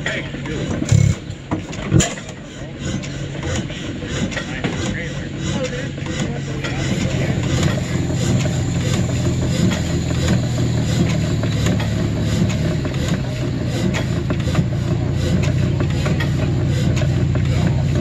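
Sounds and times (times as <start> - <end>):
stationary engine droning: 0.0 - 18.0.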